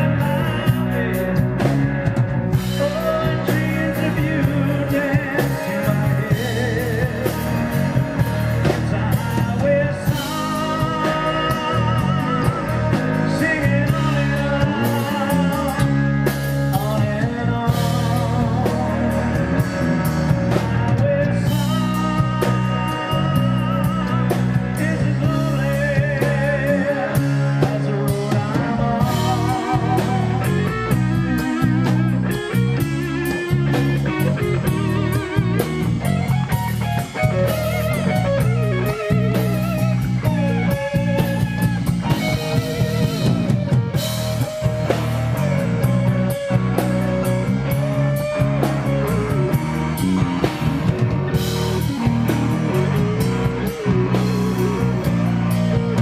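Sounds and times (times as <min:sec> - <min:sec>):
bass guitar: 0:00.0 - 0:56.0
drum kit: 0:00.0 - 0:56.0
electric guitar solo: 0:00.0 - 0:56.0.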